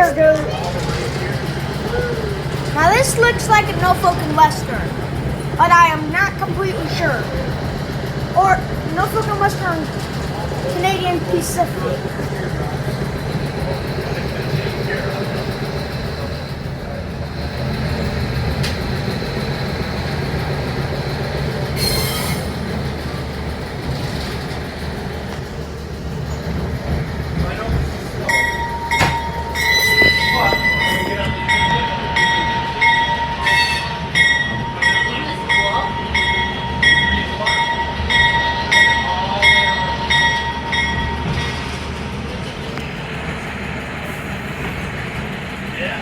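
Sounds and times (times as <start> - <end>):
railroad bell ringing: 0.0 - 23.6, 28.0 - 42.7
train rolling on track: 0.0 - 46.0.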